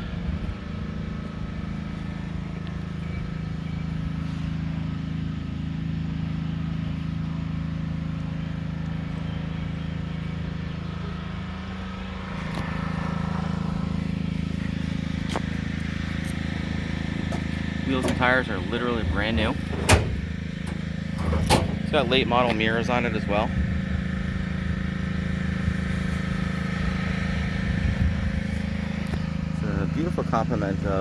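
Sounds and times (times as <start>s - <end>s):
vee eight engine idling: 0.0s - 31.0s.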